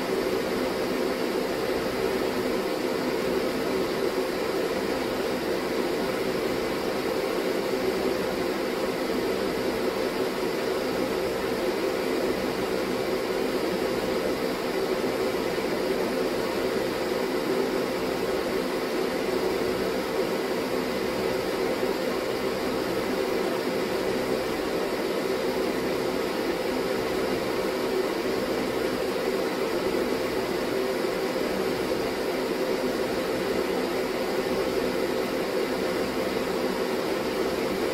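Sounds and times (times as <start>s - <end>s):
ventilation fan running: 0.0s - 37.9s.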